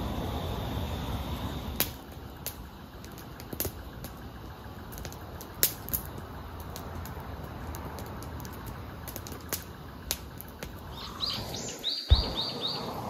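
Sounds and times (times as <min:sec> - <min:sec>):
campfire crackling: 0:00.0 - 0:13.0
steady hiss: 0:00.0 - 0:13.0
sharp pops of fire: 0:01.4 - 0:13.0.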